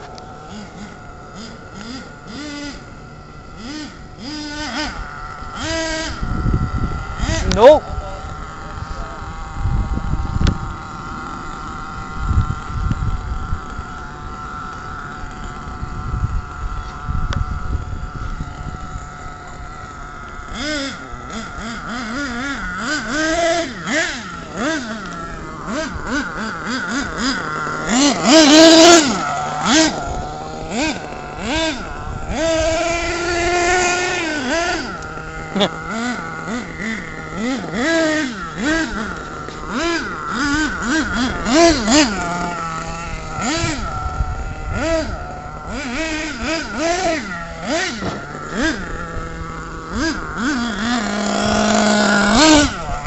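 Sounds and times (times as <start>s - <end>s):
rc car motor revving: 0.0s - 53.0s.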